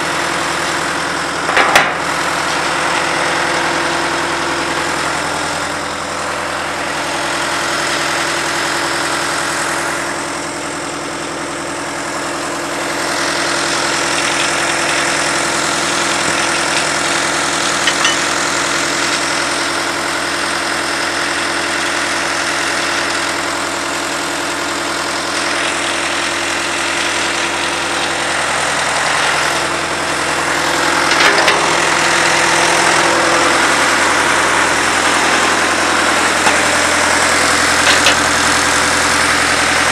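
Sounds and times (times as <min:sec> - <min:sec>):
drill rig engine idling: 0:00.0 - 0:39.9.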